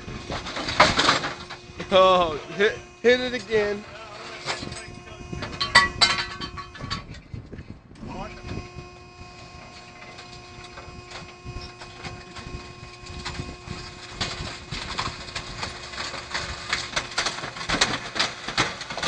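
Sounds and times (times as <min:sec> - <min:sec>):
trash compactor humming: 0:00.0 - 0:19.0.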